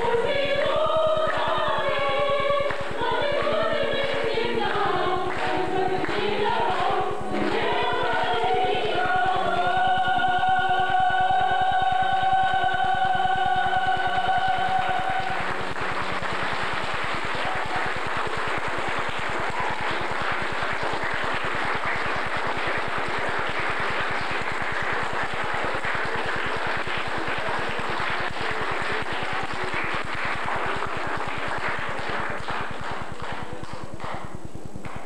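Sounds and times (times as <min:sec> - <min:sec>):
audience applauding: 0:00.0 - 0:08.7, 0:14.1 - 0:35.0
performers clapping along: 0:00.0 - 0:35.0.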